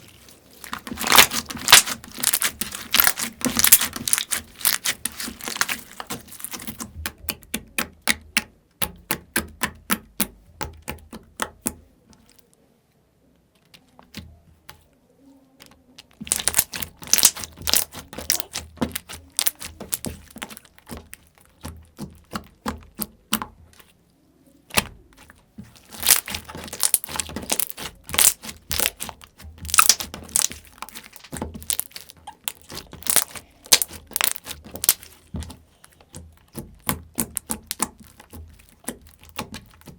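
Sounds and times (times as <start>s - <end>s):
slime clicking and crackling: 0.0s - 12.5s, 15.6s - 24.0s, 24.6s - 39.9s.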